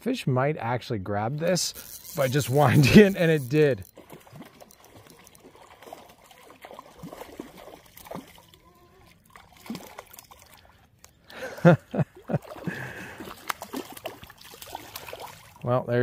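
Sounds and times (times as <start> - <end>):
fish splashing and thrashing in water: 1.7 - 11.3, 12.2 - 15.6.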